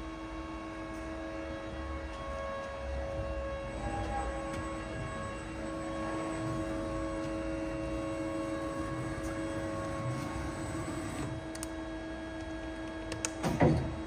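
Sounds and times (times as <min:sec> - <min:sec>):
lathe humming with whining tones: 0:00.0 - 0:13.1.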